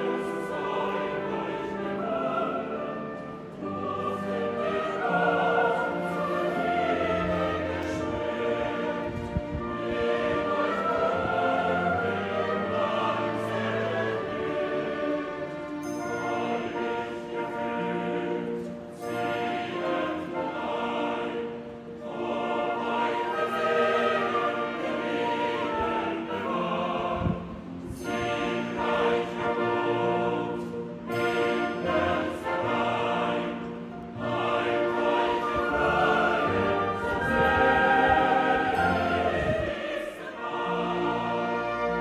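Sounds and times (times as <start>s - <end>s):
choir singing: 0.0s - 42.0s
orchestra playing: 0.0s - 42.0s.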